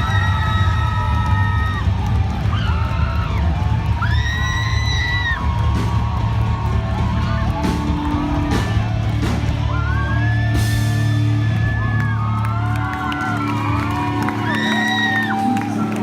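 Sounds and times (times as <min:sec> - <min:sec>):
bass guitar: 0:00.0 - 0:16.0
rock band playing: 0:00.0 - 0:16.0.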